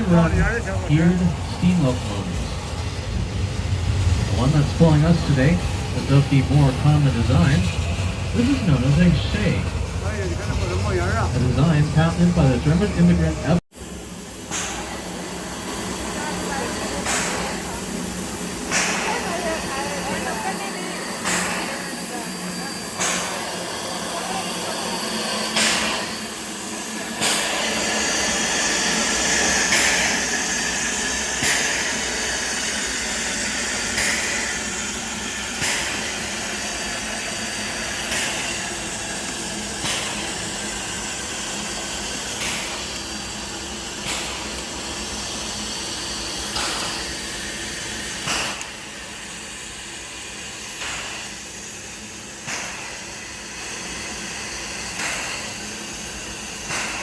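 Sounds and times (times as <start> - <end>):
steam hiss: 0.0 - 12.6, 13.8 - 57.0
steam train low rumble: 0.0 - 57.0.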